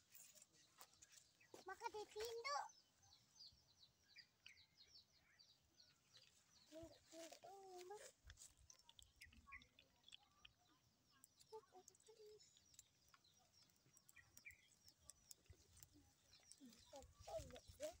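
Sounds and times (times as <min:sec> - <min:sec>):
small bird chirps: 0:00.0 - 0:18.0.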